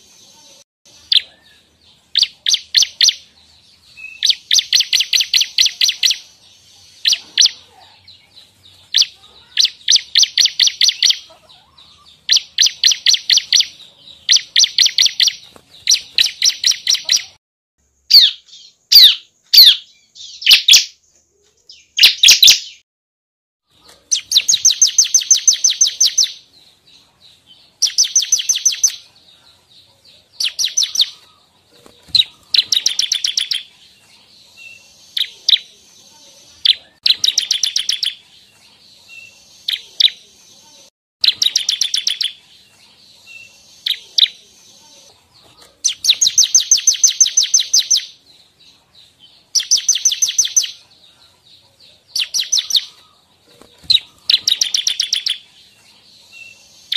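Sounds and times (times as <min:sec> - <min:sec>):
bird singing trilled chirps: 0:00.0 - 0:17.4, 0:18.0 - 0:22.8, 0:24.1 - 0:45.2, 0:45.8 - 0:53.2, 0:53.8 - 0:56.9.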